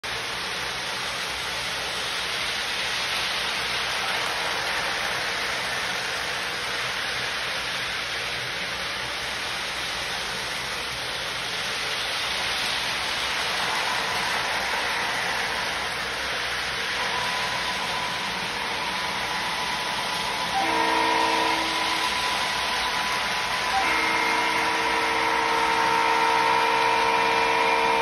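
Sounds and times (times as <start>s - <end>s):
model trains rolling on track: 0.0s - 28.0s.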